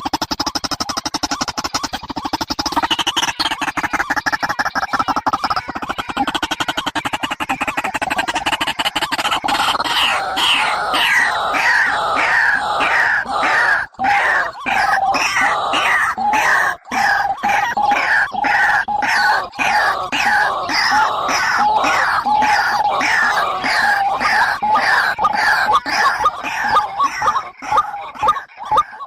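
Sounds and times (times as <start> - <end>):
harsh bird calls: 0.0 - 29.0.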